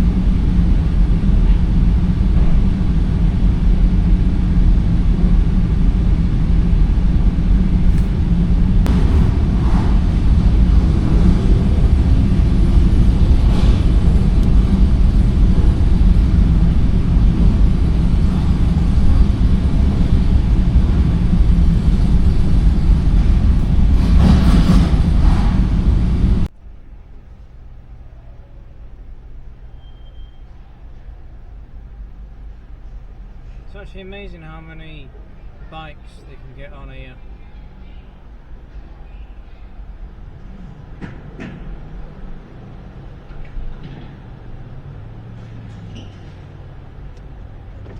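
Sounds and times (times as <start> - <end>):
low engine rumble: 0.0 - 47.9
quiet low hum: 0.0 - 47.9.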